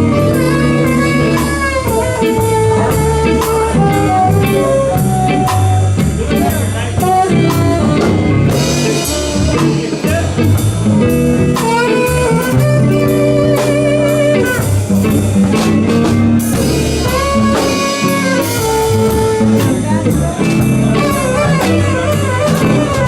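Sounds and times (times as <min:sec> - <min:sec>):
bass: 0:00.0 - 0:23.0
blues guitar lead: 0:00.0 - 0:23.0
drums: 0:00.0 - 0:23.0.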